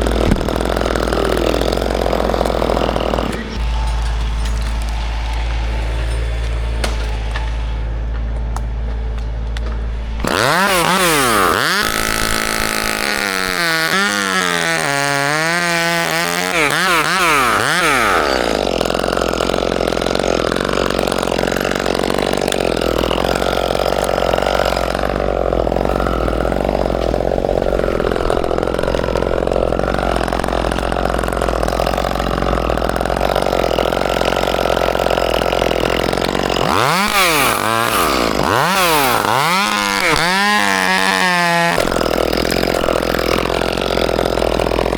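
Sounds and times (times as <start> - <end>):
chainsaw revving: 0.0 - 7.7, 9.6 - 44.9.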